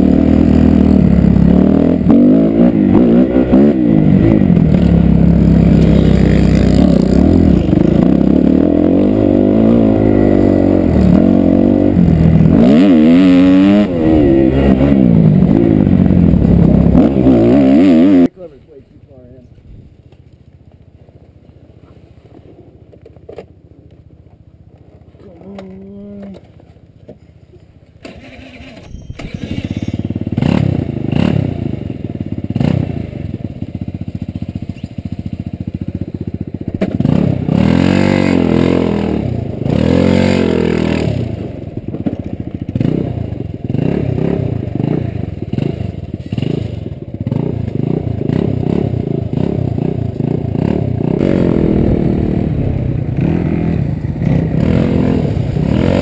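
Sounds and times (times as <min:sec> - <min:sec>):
scooter engine revving: 0:00.0 - 0:18.3, 0:28.0 - 0:56.0.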